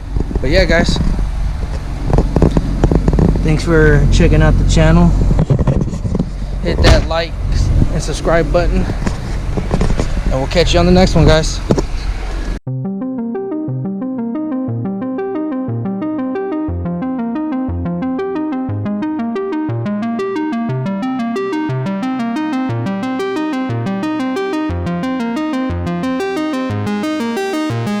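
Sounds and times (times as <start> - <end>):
bass line: 0.0 - 11.8, 12.6 - 28.0
synthesizer keyboard notes: 1.2 - 11.6, 12.6 - 28.0.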